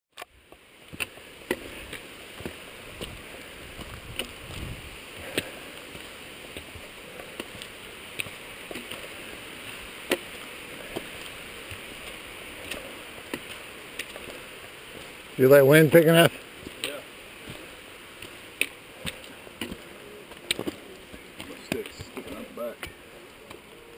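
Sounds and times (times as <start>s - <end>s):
footsteps on rocky trail: 0.2s - 23.9s
steady hiss: 0.2s - 23.9s.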